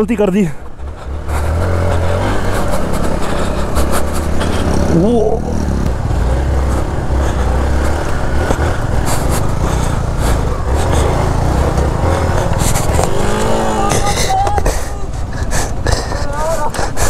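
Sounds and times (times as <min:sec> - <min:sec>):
motorcycle engine running: 0:00.6 - 0:17.0.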